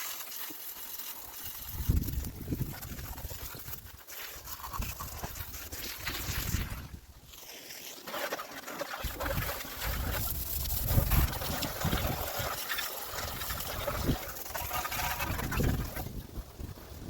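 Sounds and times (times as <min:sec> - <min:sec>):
water spraying and splashing: 0:00.0 - 0:17.0.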